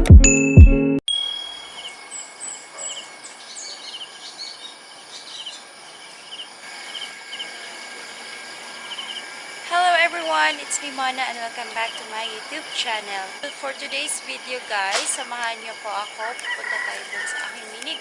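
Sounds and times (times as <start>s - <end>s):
birds chirping: 1.1s - 9.4s, 11.6s - 18.0s
insects trilling: 1.4s - 18.0s.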